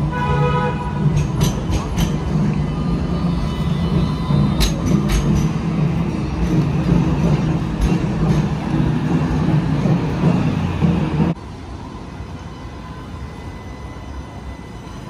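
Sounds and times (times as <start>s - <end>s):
tram rumbling past: 0.0s - 15.0s.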